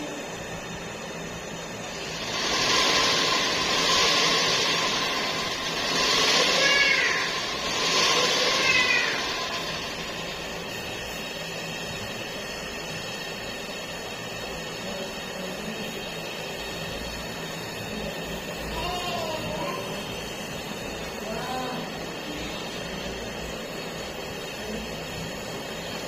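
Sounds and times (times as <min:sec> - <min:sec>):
pressurised gas hissing: 0:00.0 - 0:26.0.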